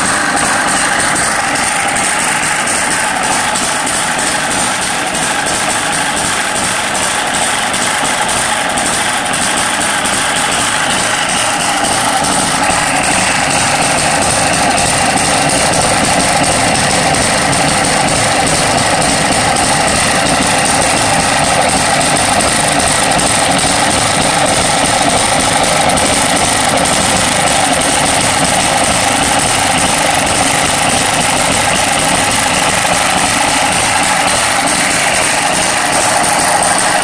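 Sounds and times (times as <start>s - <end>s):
small hit-and-miss engine running: 0.0s - 37.0s.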